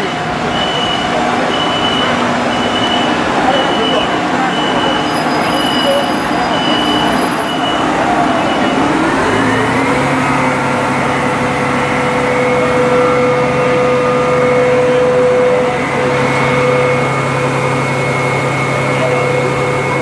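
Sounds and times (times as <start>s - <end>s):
fire truck engine whining: 0.0s - 20.0s.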